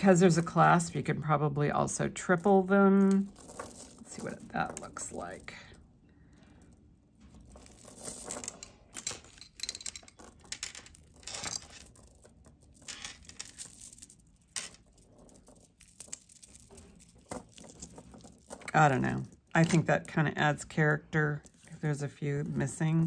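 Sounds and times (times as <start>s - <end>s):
beads clicking and rustling on stone: 2.2s - 20.1s, 21.3s - 23.0s.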